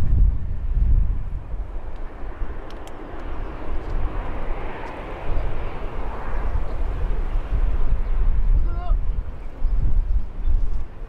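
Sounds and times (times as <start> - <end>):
distant jet engine rushing: 0.0 - 11.0
low rumble: 0.0 - 11.0.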